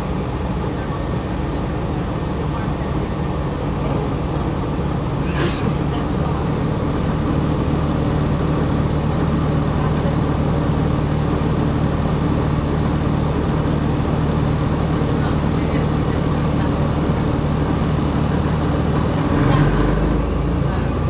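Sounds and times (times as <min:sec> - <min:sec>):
diesel bus engine droning: 0:00.2 - 0:21.0.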